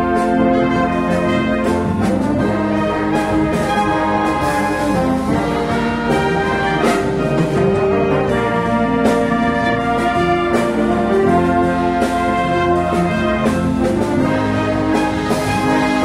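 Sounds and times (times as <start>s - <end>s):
wind band playing chords: 0.0s - 16.0s.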